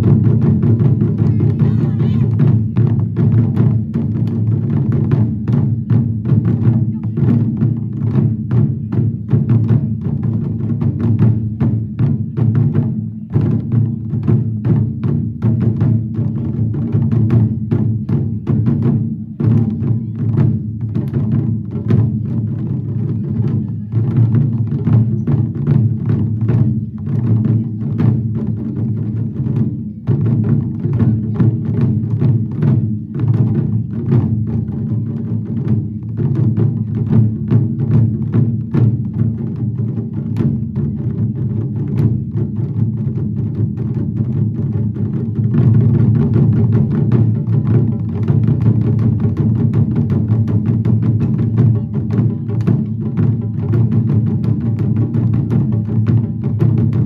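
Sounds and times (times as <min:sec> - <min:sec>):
taiko drums played in unison: 0:00.0 - 0:57.0.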